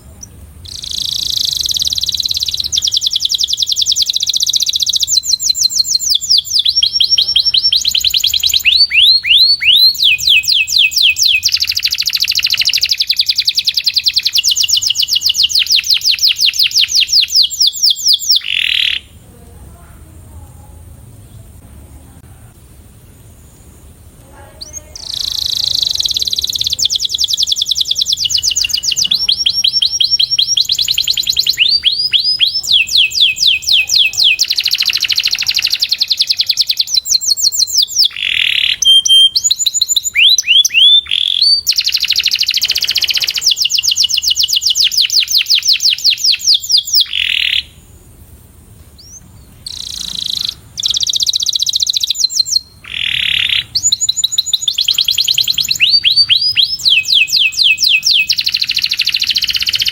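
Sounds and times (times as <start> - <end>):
canary singing rapid trills: 0.0 - 19.2, 23.3 - 48.0, 49.0 - 59.9.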